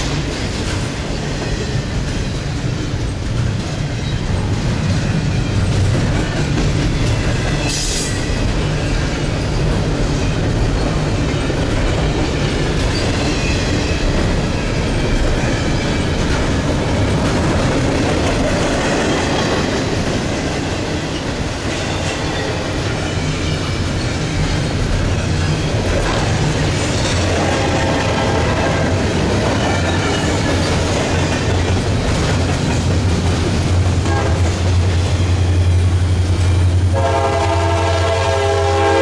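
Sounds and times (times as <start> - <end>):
freight train rumbling past: 0.0 - 39.0.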